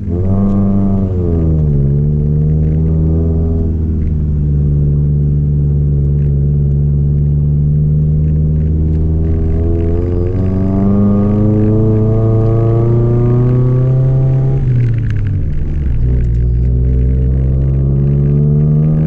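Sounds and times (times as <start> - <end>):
car engine pulling uphill: 0.0 - 19.0.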